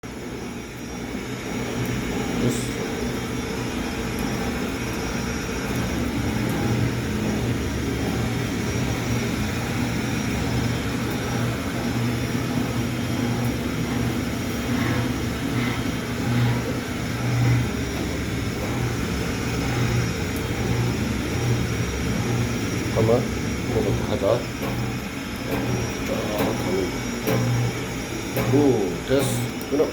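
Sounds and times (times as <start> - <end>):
machine motor hum: 0.1 - 29.9.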